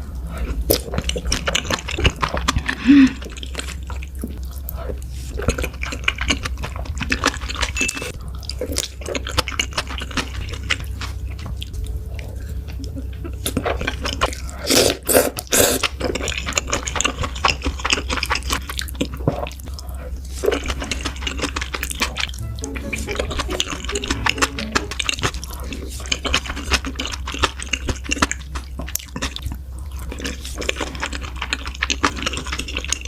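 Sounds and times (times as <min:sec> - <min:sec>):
steady low hum: 0:00.0 - 0:33.0
wet chewing and biting: 0:00.0 - 0:33.0.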